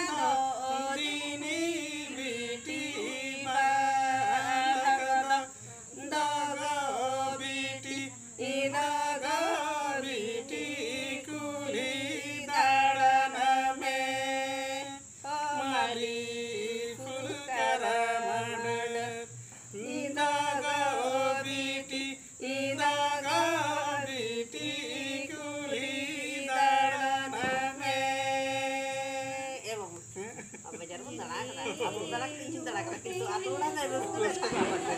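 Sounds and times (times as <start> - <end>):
group singing unaccompanied: 0.0 - 29.9, 31.2 - 34.9.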